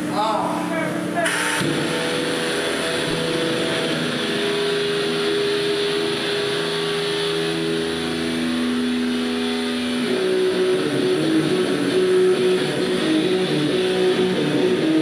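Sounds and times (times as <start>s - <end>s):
keyboards and electric guitar droning: 0.0s - 15.0s.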